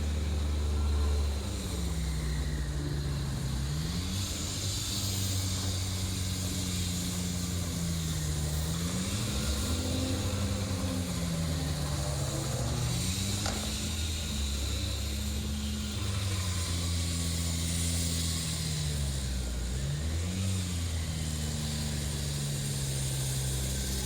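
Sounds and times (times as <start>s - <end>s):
traffic noise hiss: 0.0s - 24.0s
vehicle engine running: 0.0s - 24.0s.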